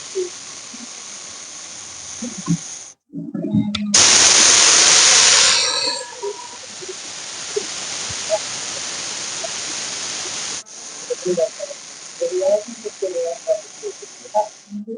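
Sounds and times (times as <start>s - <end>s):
snake hissing: 0.0s - 3.0s, 4.0s - 14.8s
steady background hiss: 0.0s - 3.0s, 4.0s - 14.9s.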